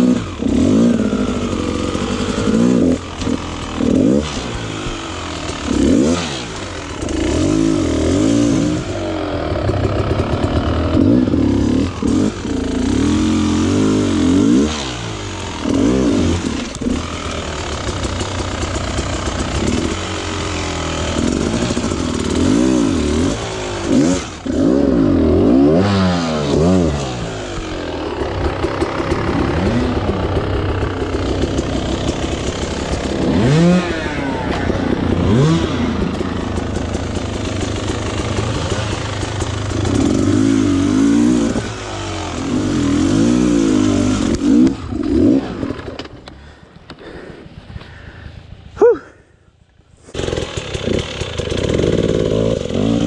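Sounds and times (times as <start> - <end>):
dirt bike engine revving: 0.0 - 47.2, 50.0 - 53.0.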